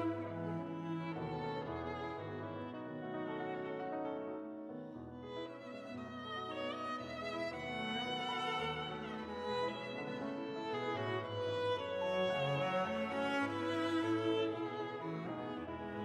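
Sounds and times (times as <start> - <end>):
violin and cello music: 0.0 - 16.0.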